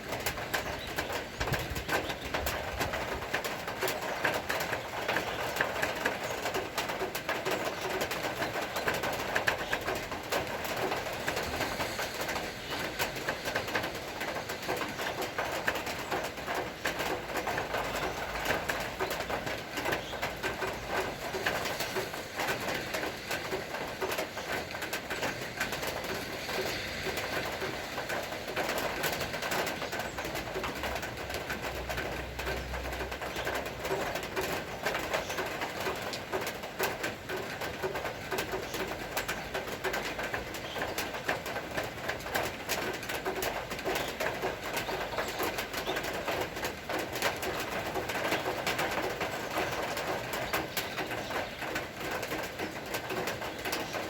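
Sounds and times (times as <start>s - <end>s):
steady rain with drips: 0.0s - 54.0s.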